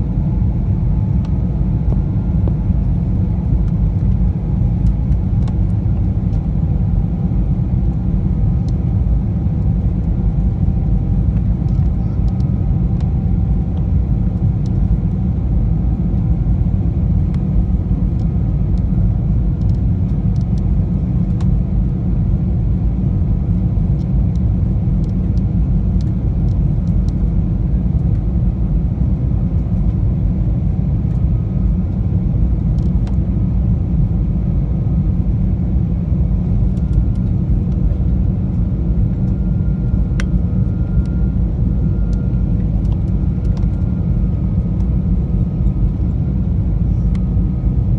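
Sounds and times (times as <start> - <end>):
airliner cabin engine rumble: 0.0 - 47.9
faint steady whine: 0.0 - 47.9.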